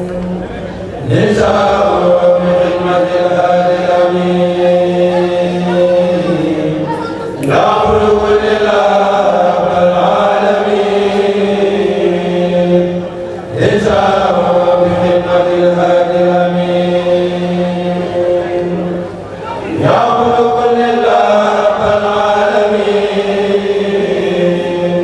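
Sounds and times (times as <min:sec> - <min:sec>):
chorus chanting in unison: 0:00.0 - 0:25.0.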